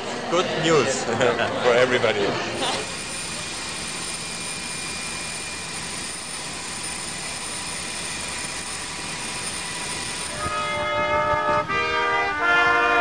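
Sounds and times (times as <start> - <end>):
jet turbines running: 0.0 - 13.0.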